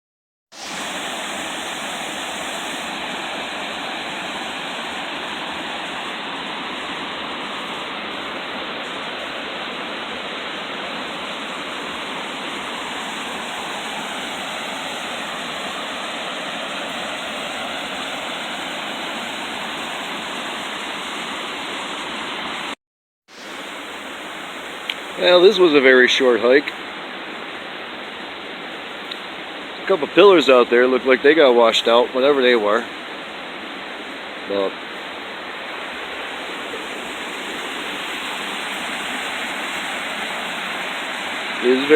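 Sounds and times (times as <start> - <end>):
waterfall rushing: 0.6 - 41.9.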